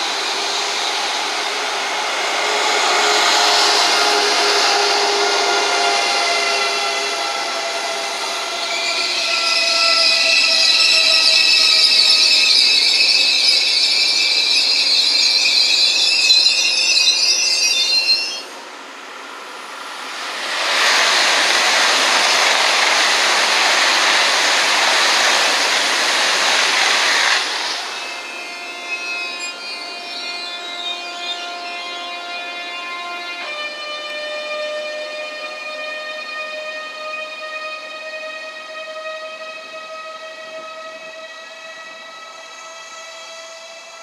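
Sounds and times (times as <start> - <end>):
high-speed train whining: 0.0 - 44.0
train rushing past: 0.0 - 44.0.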